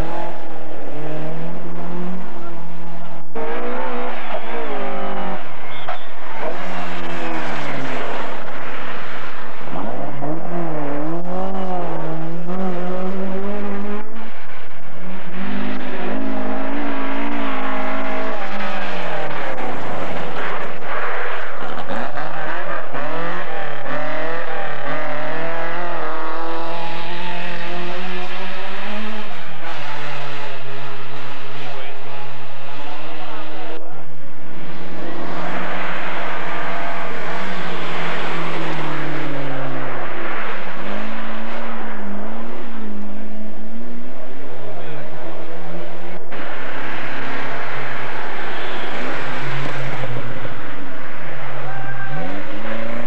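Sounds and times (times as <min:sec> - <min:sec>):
rally car engines revving: 0:00.0 - 0:53.0.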